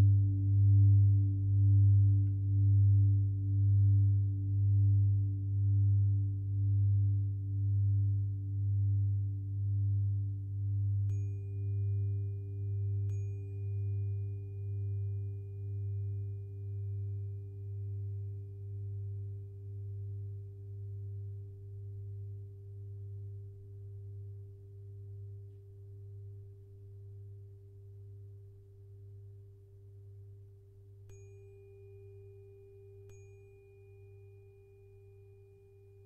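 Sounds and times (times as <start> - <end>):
singing bowl hum: 0.0 - 36.0
tuning fork ringing: 0.0 - 36.0.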